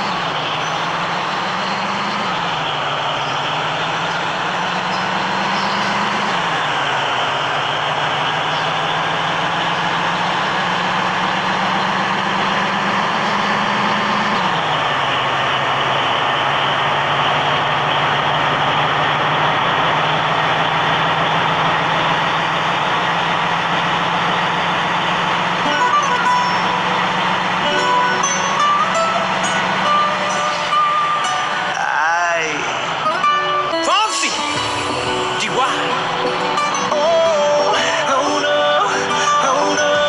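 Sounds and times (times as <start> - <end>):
heavy vehicle engine running: 0.0 - 40.0
road and mechanical noise: 0.0 - 40.0.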